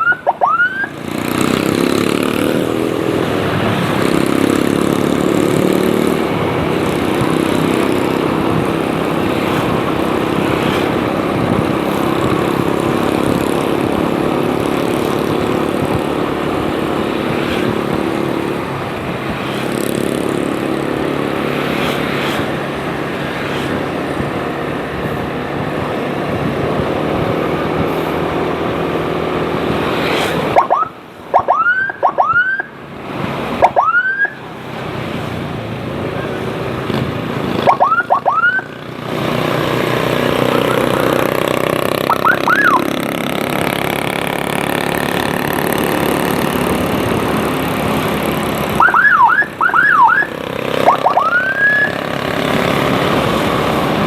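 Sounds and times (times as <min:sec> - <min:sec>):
rushing wind: 0:00.0 - 0:33.8, 0:34.4 - 0:54.0
motorcycle engine running: 0:00.9 - 0:30.8, 0:35.4 - 0:54.0.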